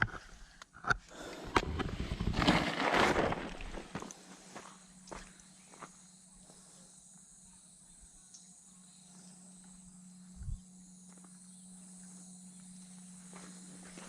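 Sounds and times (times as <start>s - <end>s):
low hum: 0.0s - 14.0s
high insect drone: 1.1s - 14.0s.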